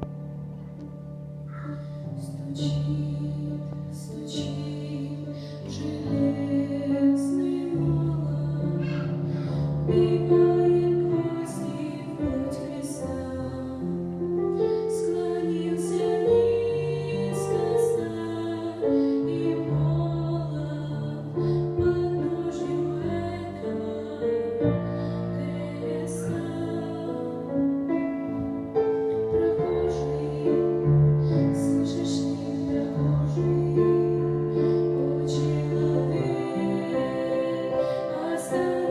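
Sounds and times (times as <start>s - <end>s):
keyboard accompaniment: 0.0s - 38.9s
woman singing slow song: 2.2s - 9.2s, 9.9s - 27.9s, 29.2s - 38.9s.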